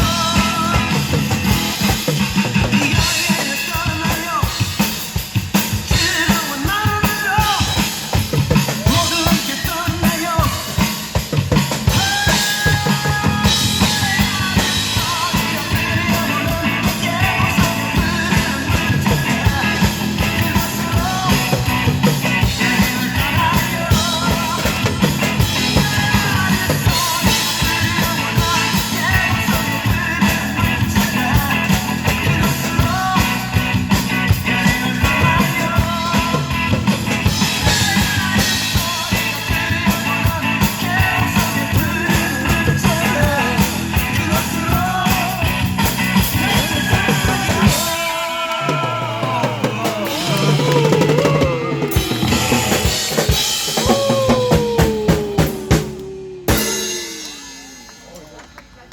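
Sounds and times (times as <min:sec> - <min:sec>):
man singing: 0:00.0 - 0:57.6
upbeat rock-pop song: 0:00.0 - 0:57.8
drum kit playing: 0:00.0 - 0:58.9.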